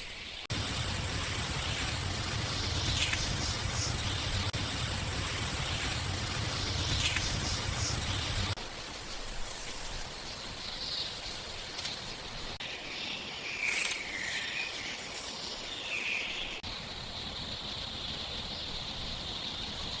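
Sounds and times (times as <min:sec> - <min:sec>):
high insect-like drone: 0:00.0 - 0:20.0
steady hiss: 0:00.0 - 0:20.0.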